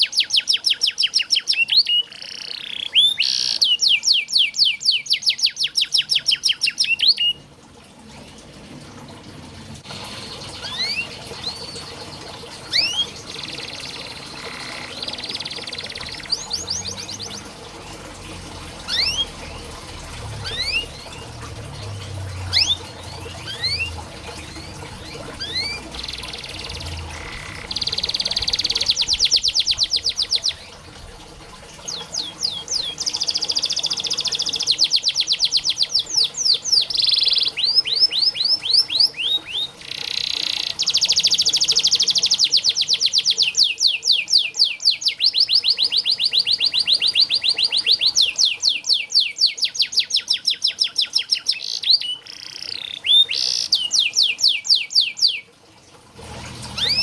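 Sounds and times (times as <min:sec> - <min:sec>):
canary singing fast trills: 0:00.0 - 0:07.4, 0:10.0 - 0:18.0, 0:18.8 - 0:30.8, 0:31.9 - 0:55.5, 0:56.7 - 0:57.0.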